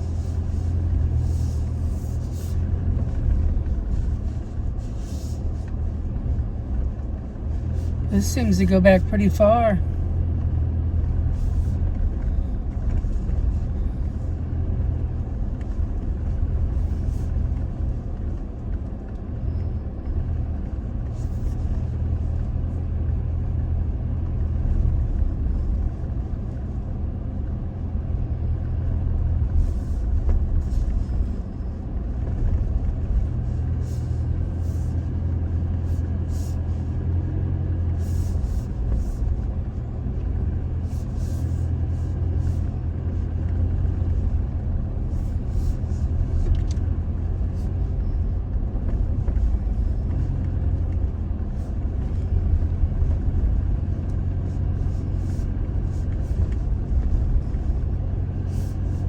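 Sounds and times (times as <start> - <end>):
pickup engine rumble: 0.0 - 59.0.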